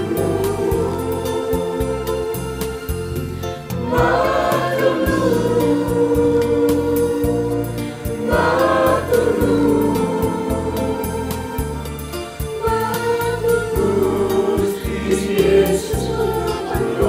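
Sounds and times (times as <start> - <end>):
instrumental accompaniment: 0.0 - 17.0
mixed choir singing a hymn: 0.0 - 17.0.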